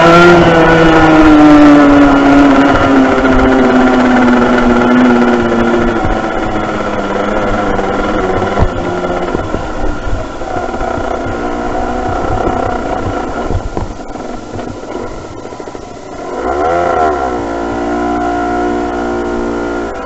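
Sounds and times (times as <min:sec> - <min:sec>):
two-stroke motorcycle engine: 0:00.0 - 0:20.0.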